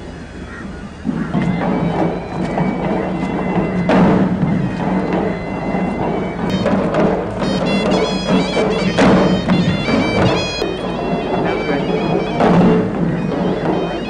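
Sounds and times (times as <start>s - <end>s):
drum strikes: 0.0s - 14.0s
reedy pipe melody: 0.0s - 14.0s
steady drone: 0.0s - 14.0s.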